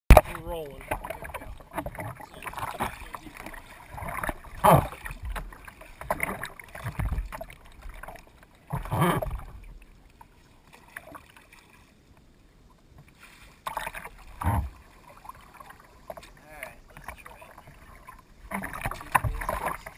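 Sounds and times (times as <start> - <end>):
kayak paddle splashing: 0.1 - 19.9.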